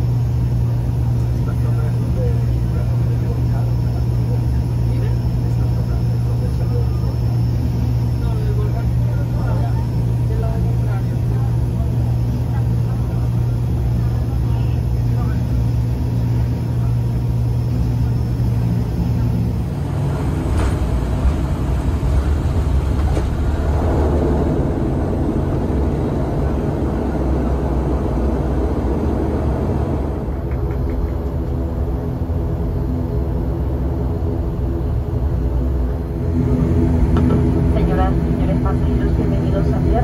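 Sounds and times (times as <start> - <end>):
propeller engine drone: 0.0 - 40.0.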